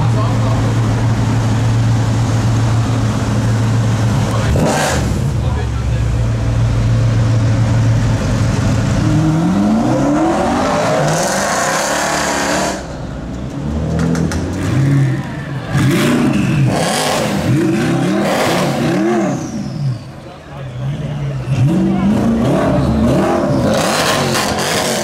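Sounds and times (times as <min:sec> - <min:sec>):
car engine revving: 0:00.1 - 0:13.0, 0:13.6 - 0:20.2, 0:20.8 - 0:25.0.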